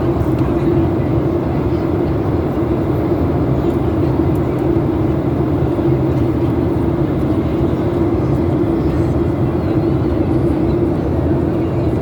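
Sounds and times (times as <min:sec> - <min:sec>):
airliner cabin rumble: 0:00.0 - 0:12.0
constant cabin hum: 0:00.0 - 0:12.0.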